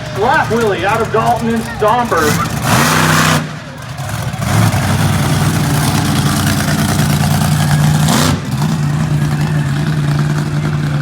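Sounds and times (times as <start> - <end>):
monster truck engine running: 0.0 - 11.0.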